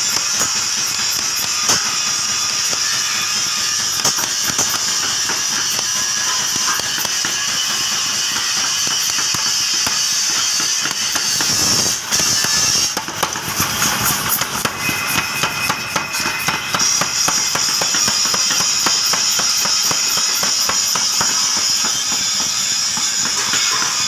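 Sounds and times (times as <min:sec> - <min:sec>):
power hammer pounding steel: 0:00.0 - 0:24.0.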